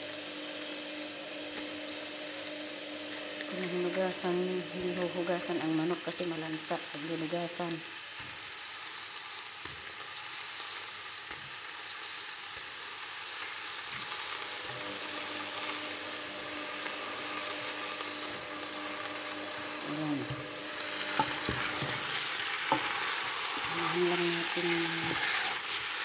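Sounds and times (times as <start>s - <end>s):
chicken and onions sizzling: 0.0s - 26.0s.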